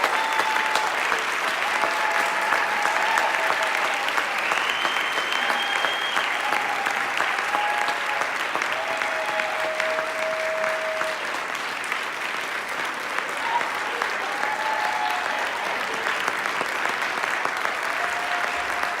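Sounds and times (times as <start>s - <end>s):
audience applauding: 0.0s - 19.0s
cheers: 0.0s - 19.0s.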